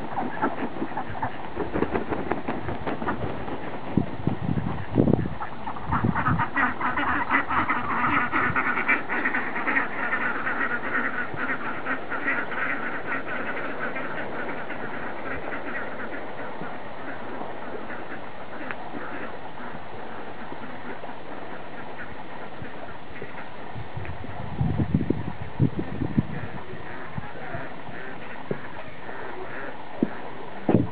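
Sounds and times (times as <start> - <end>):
ducks quacking: 0.0 - 30.9.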